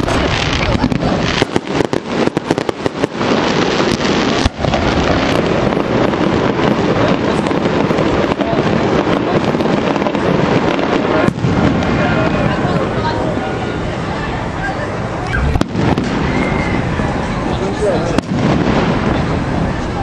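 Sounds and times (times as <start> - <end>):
fireworks cracks and pops: 0.0 - 13.3, 15.2 - 20.0
din of firework bursts: 0.0 - 20.0.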